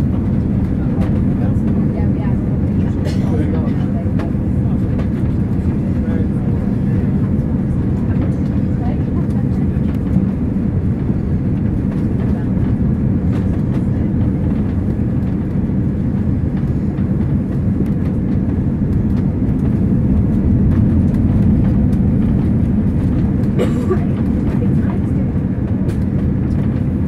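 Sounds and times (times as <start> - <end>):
aircraft cabin engine rumble: 0.0 - 27.0
steady hum: 0.0 - 27.0.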